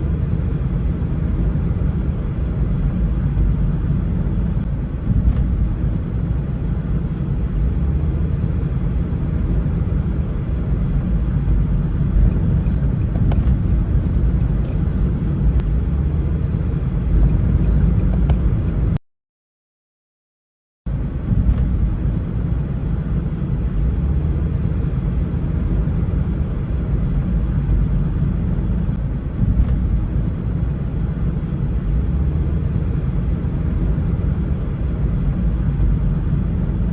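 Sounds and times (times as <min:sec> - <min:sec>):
road and wind noise: 0:00.0 - 0:19.0, 0:20.9 - 0:36.9.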